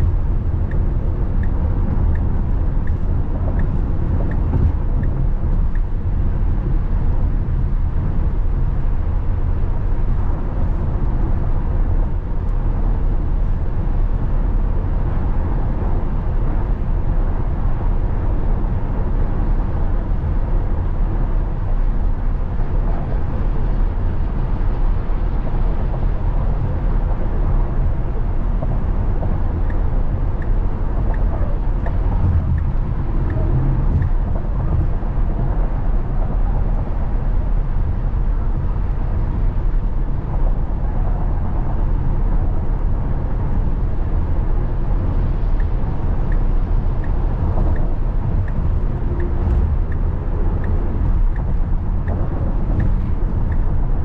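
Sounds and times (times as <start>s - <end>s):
tyre and wind rumble in car: 0.0s - 54.0s.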